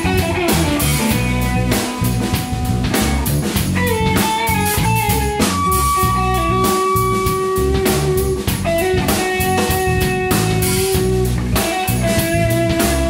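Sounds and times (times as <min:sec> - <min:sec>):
drum kit: 0:00.0 - 0:13.0
electric guitar lead lines: 0:00.0 - 0:13.0.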